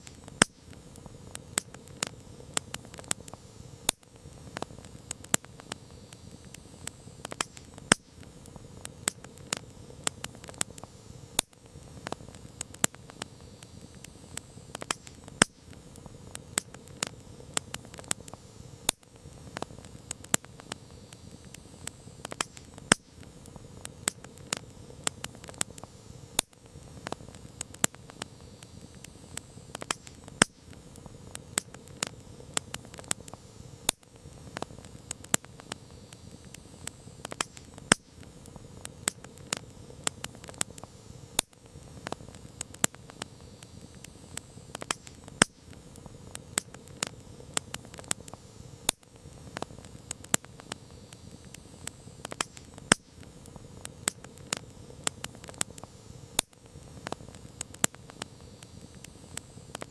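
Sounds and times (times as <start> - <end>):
campfire crackling and popping: 0.0 - 59.9
low rush of flames: 0.0 - 59.9.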